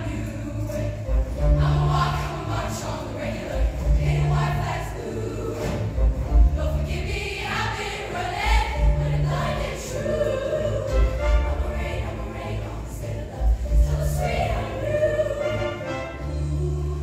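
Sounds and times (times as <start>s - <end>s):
bass notes: 0.0s - 15.4s
choir singing: 0.0s - 17.0s.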